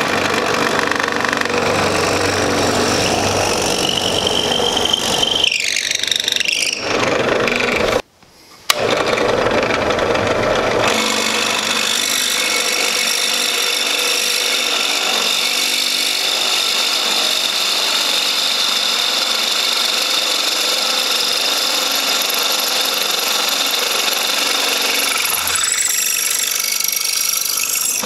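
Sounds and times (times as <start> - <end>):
drill bit whine cutting metal: 0.2 - 8.0, 10.8 - 28.0.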